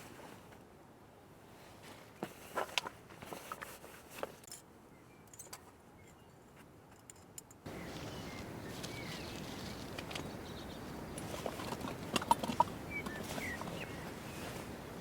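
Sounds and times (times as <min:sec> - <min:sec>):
camping gear clicks and rustles: 0:00.0 - 0:00.7, 0:01.6 - 0:15.0
steady outdoor hiss: 0:00.0 - 0:15.0.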